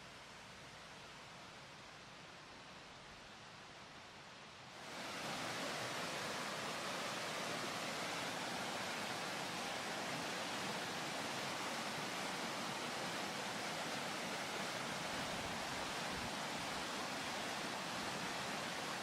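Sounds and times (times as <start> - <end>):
creek rushing over rapids: 0.0 - 19.0.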